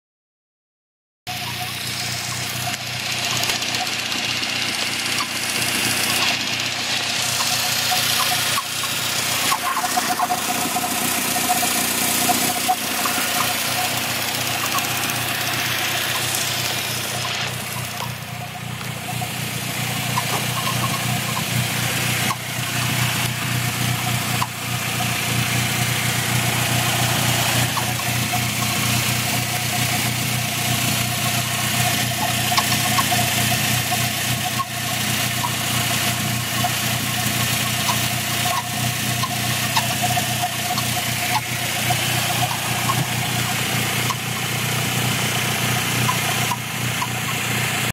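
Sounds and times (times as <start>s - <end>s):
high chirping noise: 1.3s - 47.4s
car engine idling: 1.3s - 47.9s.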